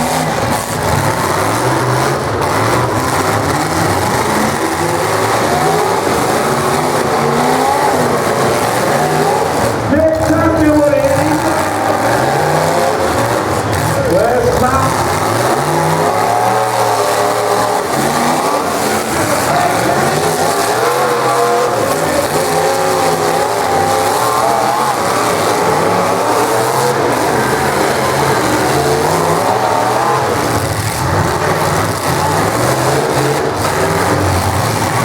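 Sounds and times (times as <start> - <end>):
car engines revving hard: 0.0 - 35.0.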